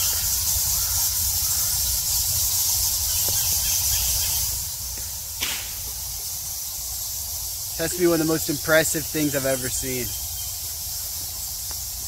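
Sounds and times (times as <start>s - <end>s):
bats squeaking and chittering: 0.0s - 12.0s.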